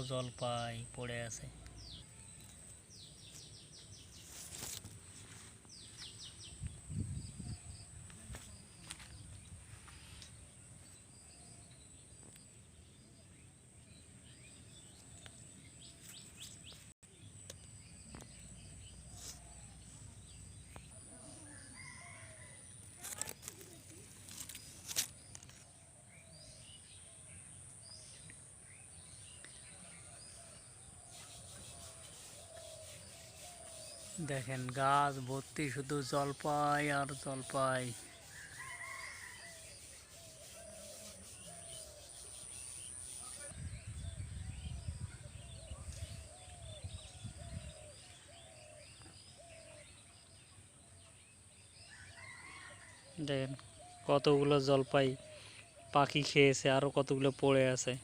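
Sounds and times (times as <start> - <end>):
outdoor background noise: 0.0 - 58.0
small birds chirping: 0.0 - 58.0.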